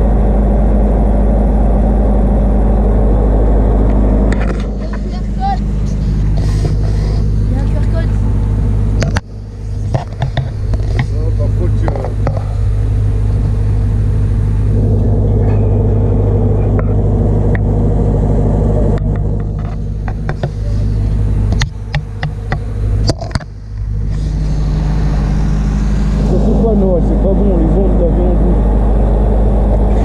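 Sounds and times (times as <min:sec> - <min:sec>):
generator engine droning: 0:00.0 - 0:30.0.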